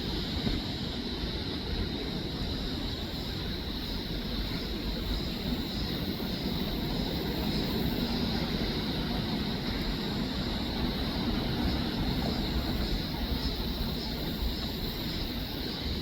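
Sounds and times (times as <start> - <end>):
steady rumbling noise: 0.0 - 16.0.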